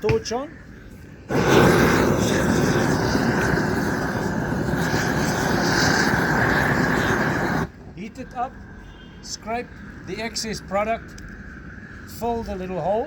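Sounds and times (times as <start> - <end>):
gas torch burning: 1.2 - 12.9.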